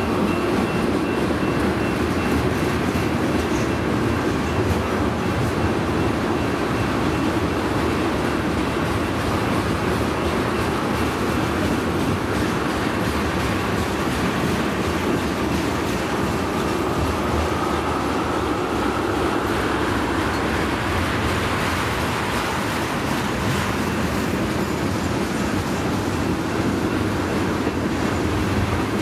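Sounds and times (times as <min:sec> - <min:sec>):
train wheels clickety-clack: 0:00.0 - 0:29.0
train wheels rumbling on rails: 0:00.0 - 0:29.0.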